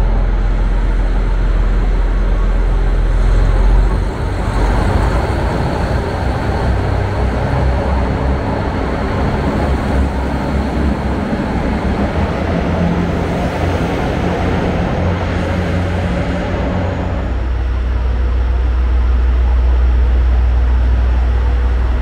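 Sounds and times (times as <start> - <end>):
diesel engine hum: 0.0 - 22.0.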